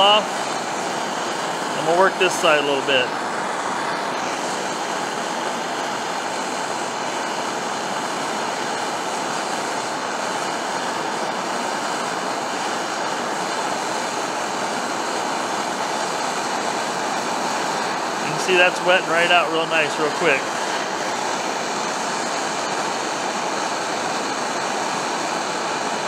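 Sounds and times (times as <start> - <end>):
gas torch flame hissing: 0.0 - 26.0.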